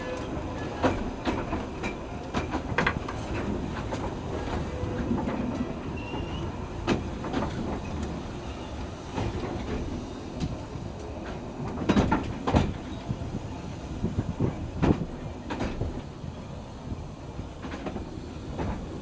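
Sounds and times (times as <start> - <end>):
train wheels clicking and knocking: 0.0 - 16.3, 16.9 - 19.0
train rumbling on track: 0.0 - 19.0.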